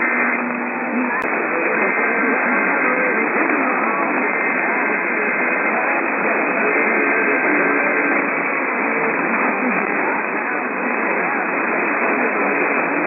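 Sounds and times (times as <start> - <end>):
faint radio voices: 0.0 - 13.0
radio static and hiss: 0.0 - 13.0.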